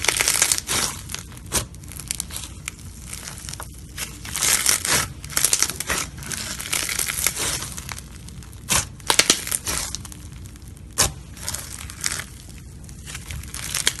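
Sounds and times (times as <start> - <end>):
slime beads crackling and crunching: 0.0 - 14.0.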